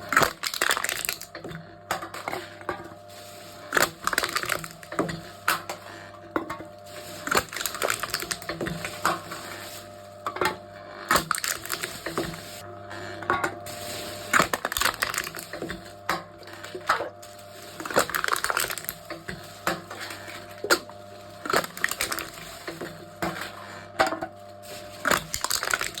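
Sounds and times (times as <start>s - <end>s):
cans crunching in crusher: 0.0s - 26.0s.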